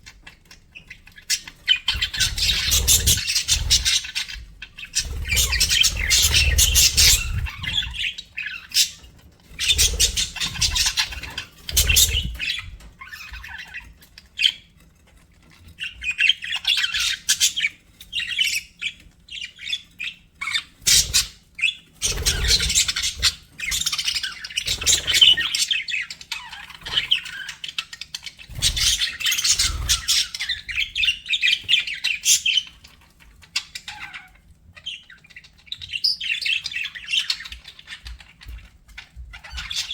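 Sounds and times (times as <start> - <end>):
budgerigars chattering and chirping: 0.0 - 14.8, 15.4 - 39.9.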